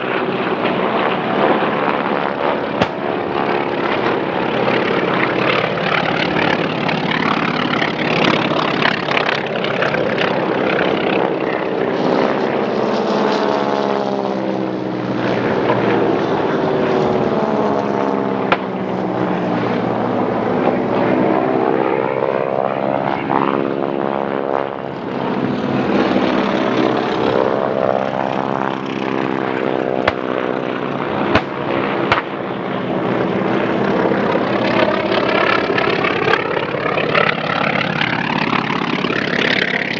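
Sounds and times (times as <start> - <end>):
propeller plane engines passing: 0.0 - 39.9.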